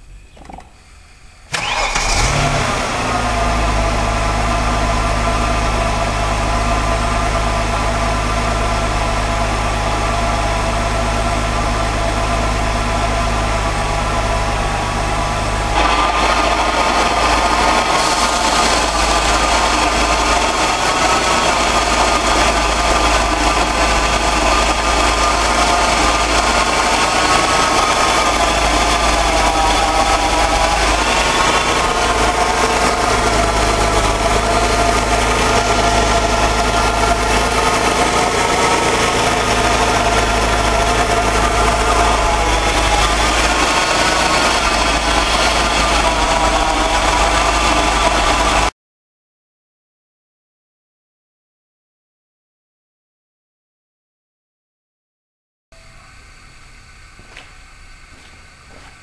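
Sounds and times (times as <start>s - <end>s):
car engine idling: 0.0s - 48.7s
higher engine whir: 0.0s - 48.7s
car engine cranking: 0.3s - 48.7s.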